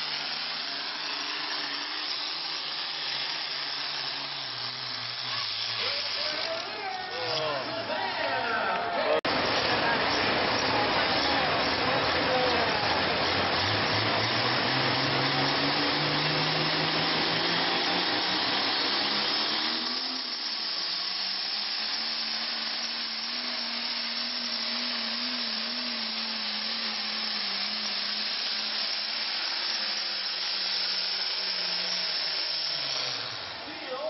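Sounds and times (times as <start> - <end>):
loud turbo hiss: 0.0 - 7.9, 9.3 - 34.0
tractor diesel engine at full throttle: 0.0 - 34.0.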